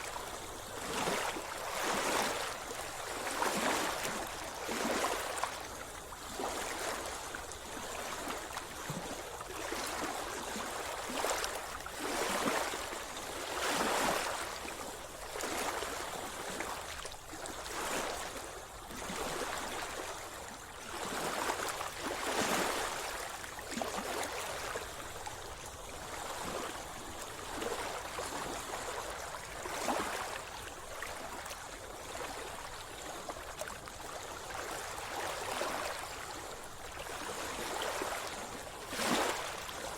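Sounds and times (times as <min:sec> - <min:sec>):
sea water splashing and lapping: 0:00.0 - 0:39.9.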